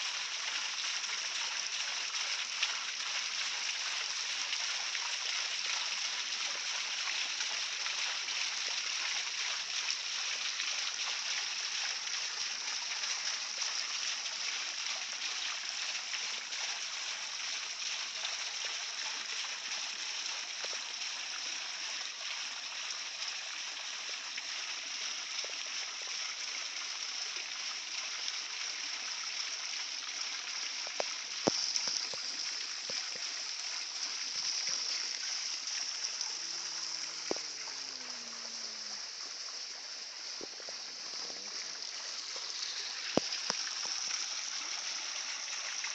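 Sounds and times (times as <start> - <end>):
waterfall splashing into pool: 0.0 - 45.9.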